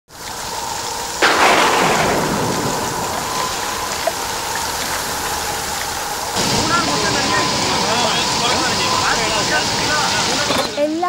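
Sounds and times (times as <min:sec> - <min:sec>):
heavy rain falling: 0:00.1 - 0:11.0
thunderclap rumbling: 0:01.1 - 0:10.5.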